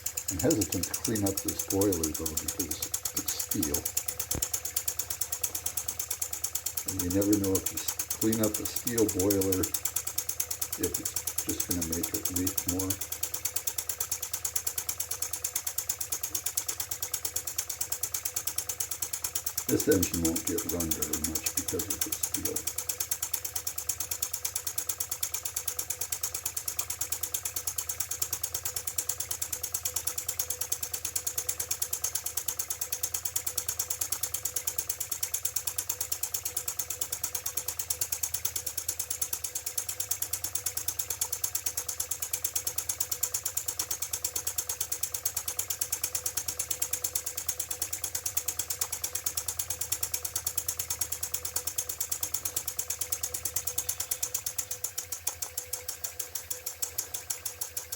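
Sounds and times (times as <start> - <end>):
toy steam engine ticking: 0.0 - 57.9.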